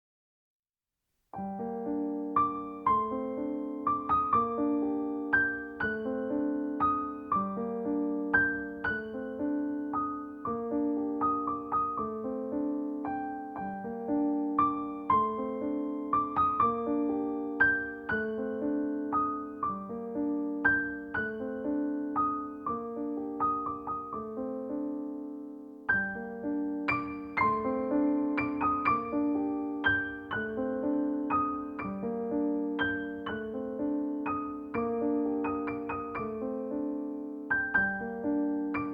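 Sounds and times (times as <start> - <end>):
soft piano music: 1.3 - 38.9.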